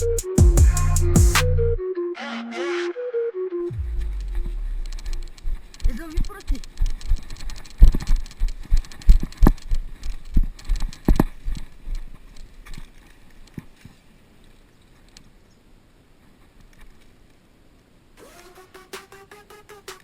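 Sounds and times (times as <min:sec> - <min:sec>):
faint background noise: 0:03.7 - 0:20.0.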